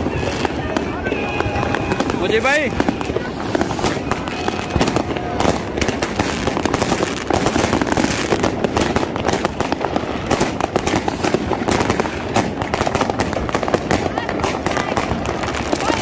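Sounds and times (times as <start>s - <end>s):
fireworks and firecrackers banging: 0.0s - 16.0s.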